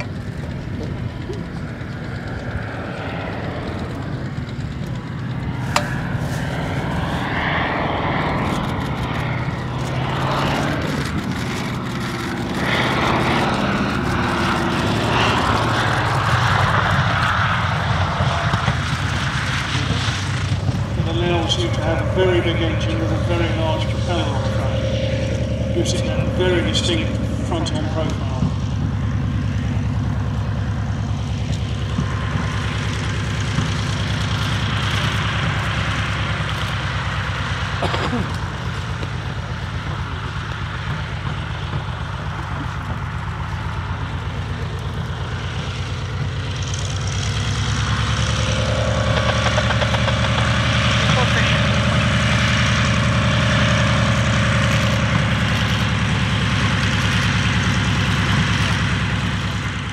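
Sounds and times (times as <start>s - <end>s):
propeller rushing noise: 0.0s - 59.9s
radial aircraft engine rumbling: 0.0s - 59.9s.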